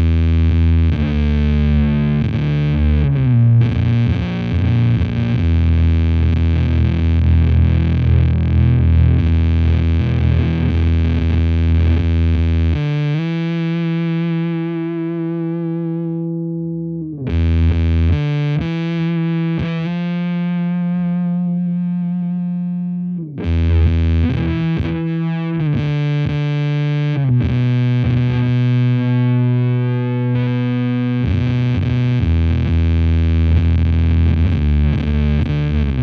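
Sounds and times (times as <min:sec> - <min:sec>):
fuzzed electric guitar chords: 0:00.0 - 0:36.0.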